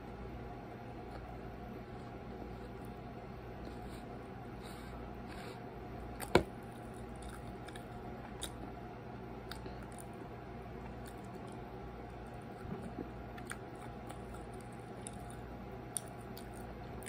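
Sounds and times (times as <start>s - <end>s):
low room hum: 0.0s - 17.0s
child chewing: 1.1s - 8.8s, 9.4s - 17.0s.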